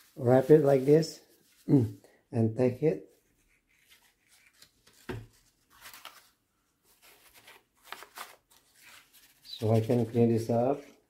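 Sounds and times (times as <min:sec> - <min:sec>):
tissue paper rustling: 0:00.0 - 0:01.8, 0:03.1 - 0:11.0.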